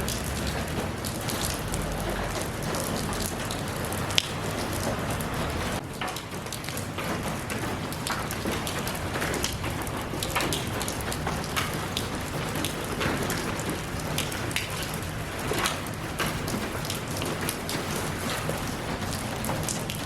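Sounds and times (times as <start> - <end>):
raindrops on hard surface: 0.0 - 20.0.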